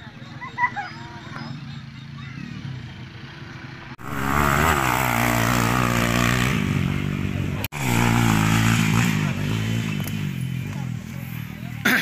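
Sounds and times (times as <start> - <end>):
dirt bike engine revving: 2.4 - 12.0.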